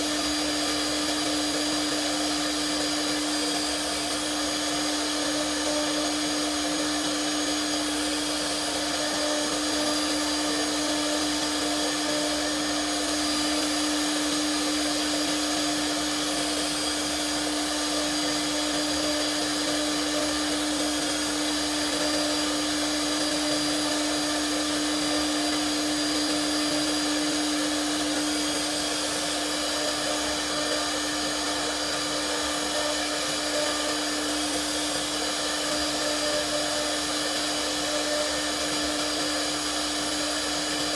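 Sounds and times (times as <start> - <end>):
router spindle motor running: 0.0 - 40.9.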